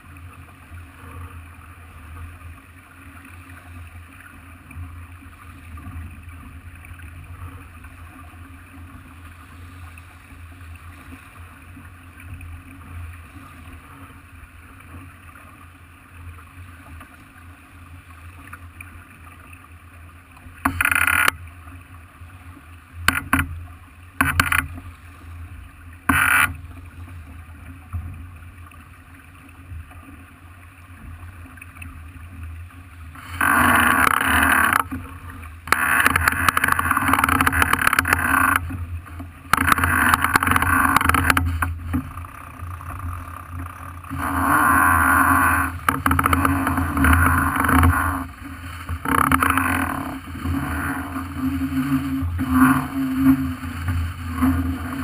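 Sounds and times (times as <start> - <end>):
water and wind along hull: 0.0 - 55.0
water splashes: 0.0 - 55.0.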